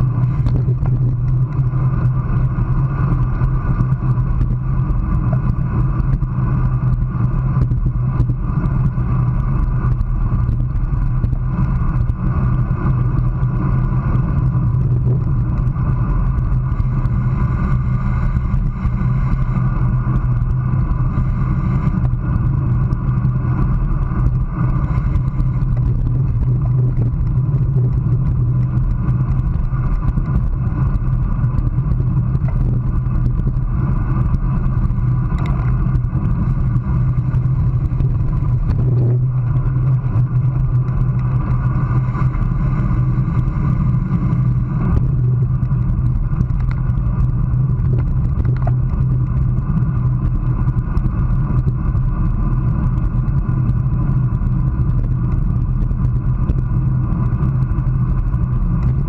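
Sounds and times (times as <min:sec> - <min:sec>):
road rumble: 0:00.0 - 0:59.0
wind rush: 0:00.0 - 0:59.0.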